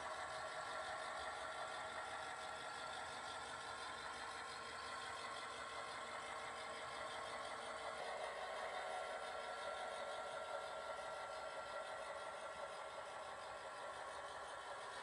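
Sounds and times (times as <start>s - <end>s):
model train mechanical hum: 0.0s - 15.0s.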